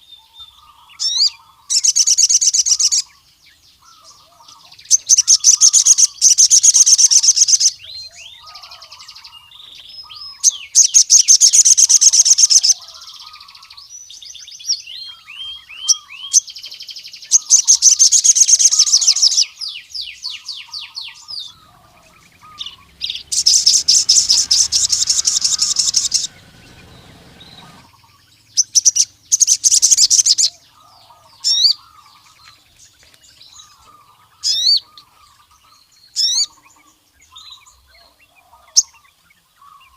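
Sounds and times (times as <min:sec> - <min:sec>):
bird singing fast high trills: 0:00.0 - 0:32.8
bird chirping: 0:00.0 - 0:39.9.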